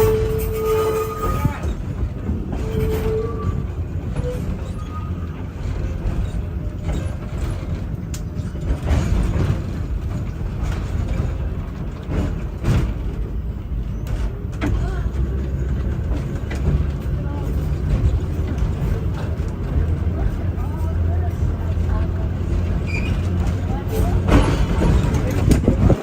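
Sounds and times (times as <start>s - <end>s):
streetcar rolling rumble: 0.0s - 26.0s.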